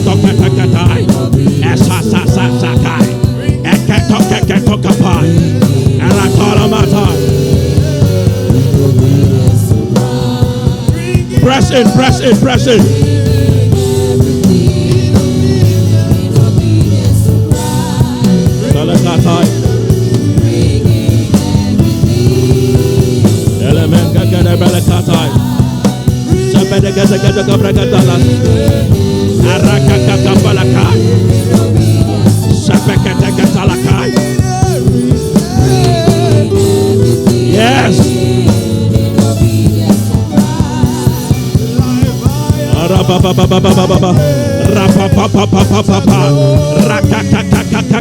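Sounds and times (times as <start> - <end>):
person singing wavering: 0.0 - 48.0
voice-like melody line: 0.0 - 48.0
worship music with drum kit: 0.0 - 48.0.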